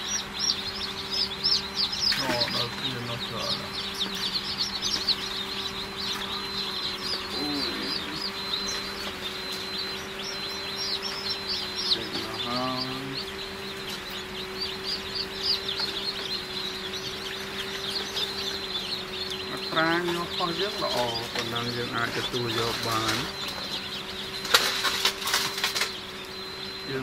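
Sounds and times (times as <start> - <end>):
chicks peeping: 0.0 - 27.0
steady low hum: 0.0 - 27.0.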